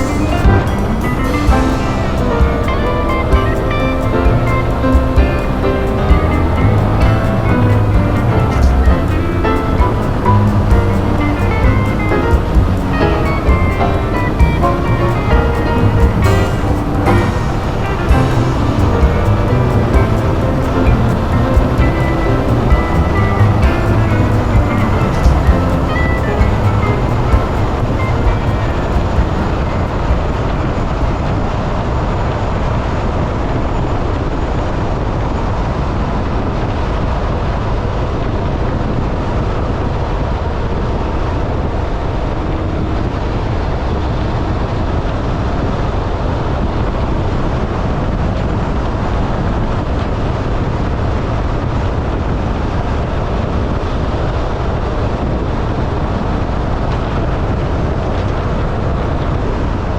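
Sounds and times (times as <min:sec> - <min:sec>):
wind rush: 0:00.0 - 0:59.9.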